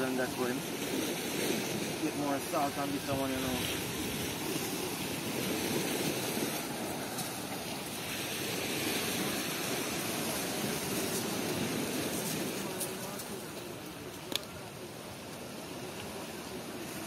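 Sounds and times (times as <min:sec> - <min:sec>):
surf breaking on beach: 0:00.0 - 0:17.0.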